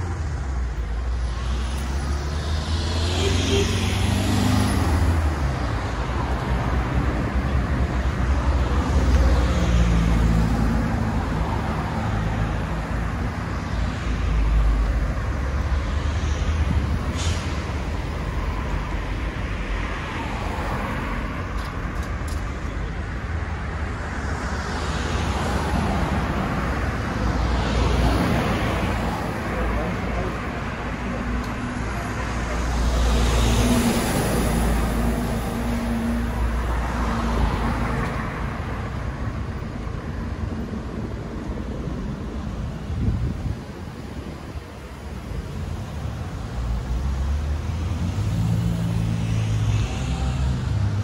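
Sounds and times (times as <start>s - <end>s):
vehicles driving past: 0.0s - 51.0s.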